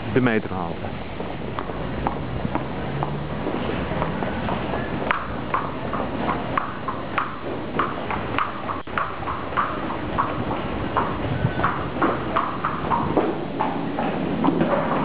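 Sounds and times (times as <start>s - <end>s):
footsteps on concrete stairs: 0.9s - 15.0s.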